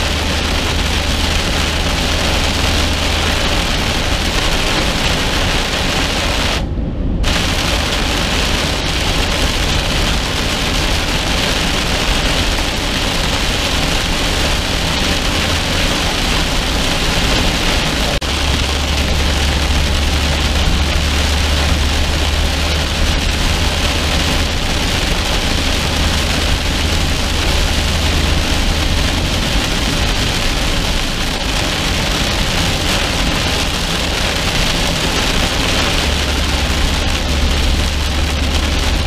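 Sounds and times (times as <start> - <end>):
rain on car windshield: 0.0 - 6.6, 7.2 - 39.0
car road and engine rumble: 0.0 - 39.0.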